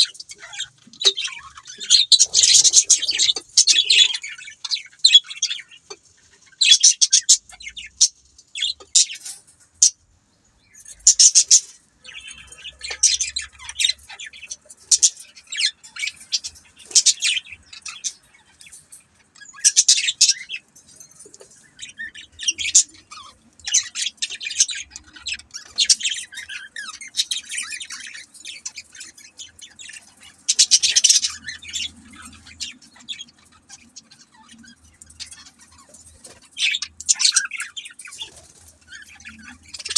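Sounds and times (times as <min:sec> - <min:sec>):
budgerigars chirping: 0:00.0 - 0:10.0, 0:10.6 - 0:39.9.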